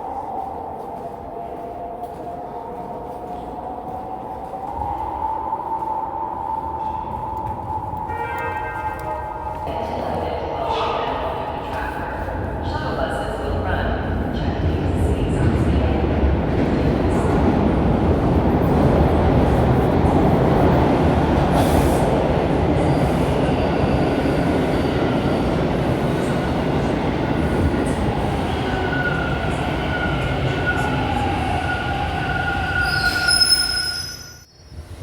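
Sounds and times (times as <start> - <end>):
subway train wheels rumbling: 0.0 - 35.0.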